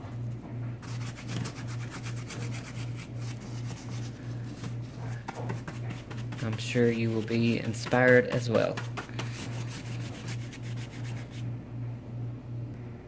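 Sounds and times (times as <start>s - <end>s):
paintbrush scrubbing a rough surface: 0.8s - 11.5s.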